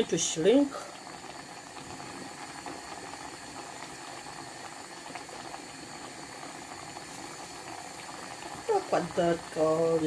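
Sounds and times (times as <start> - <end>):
meat simmering in a pan: 0.0 - 10.0.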